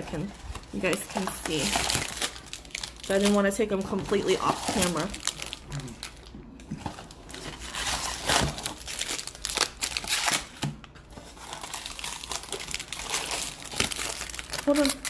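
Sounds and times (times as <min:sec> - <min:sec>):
card packs crinkling: 0:00.1 - 0:15.0.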